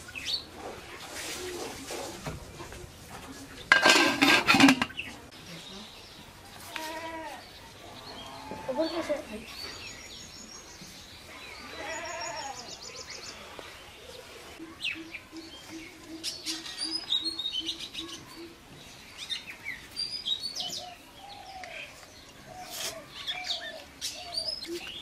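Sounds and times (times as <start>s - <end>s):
birds chirping and calling: 3.6s - 25.0s.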